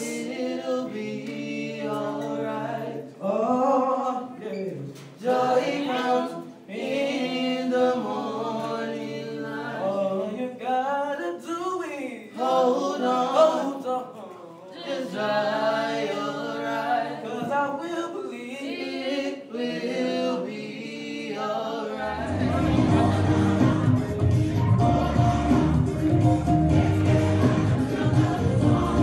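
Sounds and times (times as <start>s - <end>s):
group singing a cappella: 0.0s - 29.0s.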